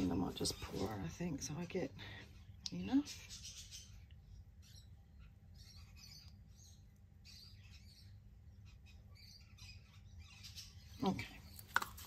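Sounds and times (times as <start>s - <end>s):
low steady hum: 0.0s - 12.0s
faint bird chirps: 2.0s - 11.8s.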